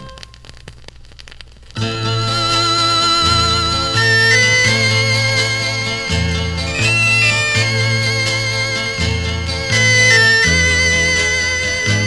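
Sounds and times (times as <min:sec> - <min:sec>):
folk-pop record instrumental: 0:00.0 - 0:12.0.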